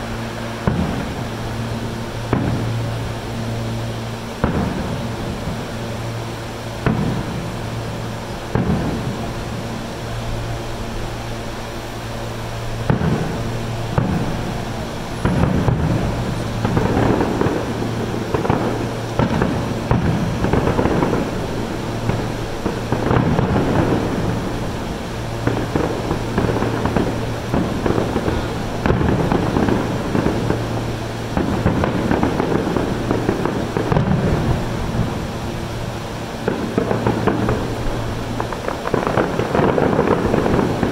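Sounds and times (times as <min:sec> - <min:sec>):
firework bangs with echo: 0:00.0 - 0:11.4, 0:12.0 - 0:40.9.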